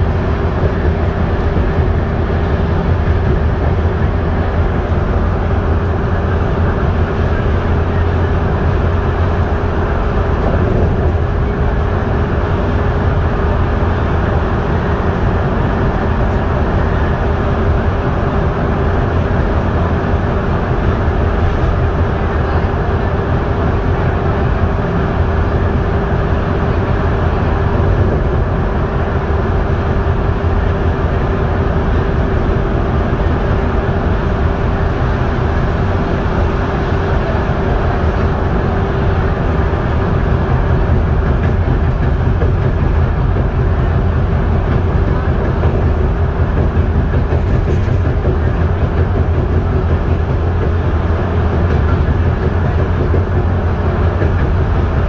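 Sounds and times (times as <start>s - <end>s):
bus engine and tyre drone: 0.0s - 55.0s.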